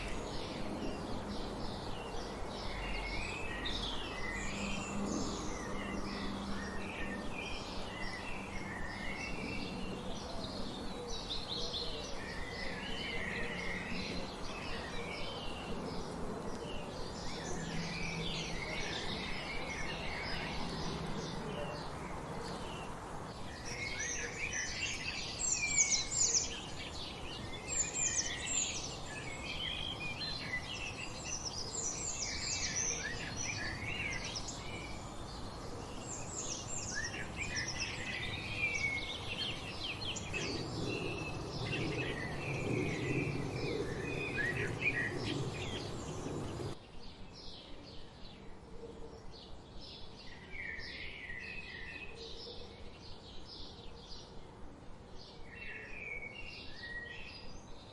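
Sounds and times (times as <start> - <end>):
wild birds singing and chirping: 0.0 - 57.9.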